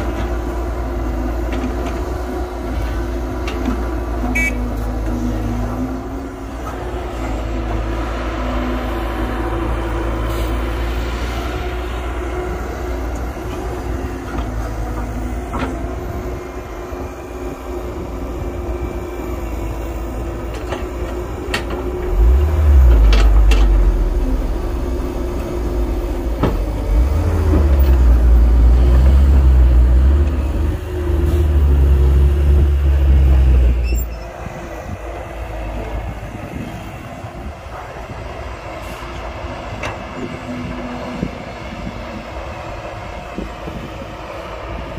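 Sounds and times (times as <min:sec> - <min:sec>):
excavator engine and hydraulics: 0:00.0 - 0:44.9.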